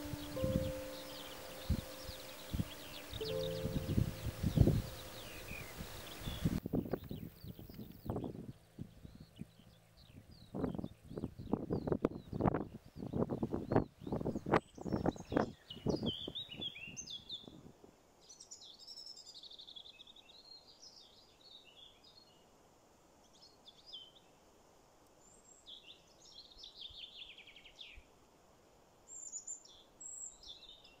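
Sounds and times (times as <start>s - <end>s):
small birds singing: 0.0s - 17.6s, 18.2s - 22.5s, 25.2s - 28.1s, 29.1s - 31.0s.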